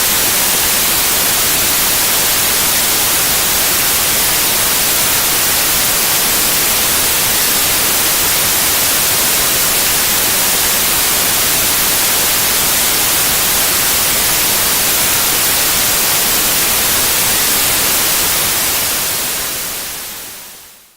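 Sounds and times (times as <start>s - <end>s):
white noise hiss: 0.0s - 20.9s.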